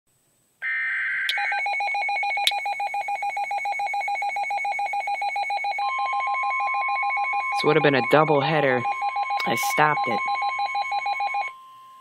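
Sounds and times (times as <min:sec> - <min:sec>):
rapid beeping alarm: 0:00.6 - 0:12.0.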